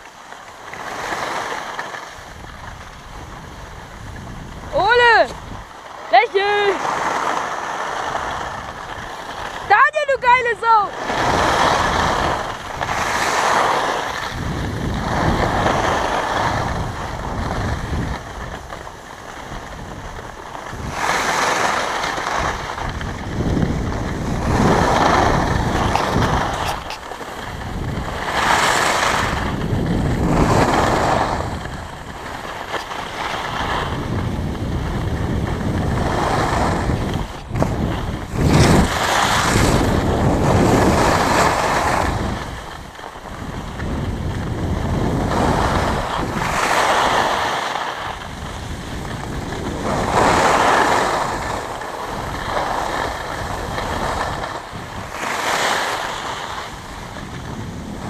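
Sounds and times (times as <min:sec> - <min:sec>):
skis scraping over snow: 0:00.0 - 0:58.0
wind on microphone: 0:00.7 - 0:58.0.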